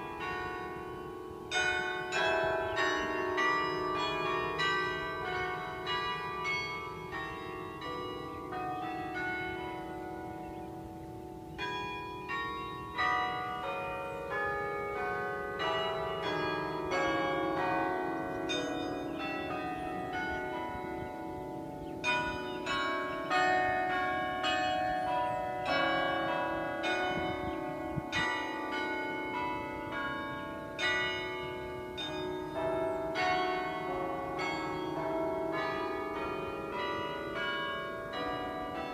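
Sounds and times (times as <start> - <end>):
carillon bells playing a melody: 0.0 - 38.9.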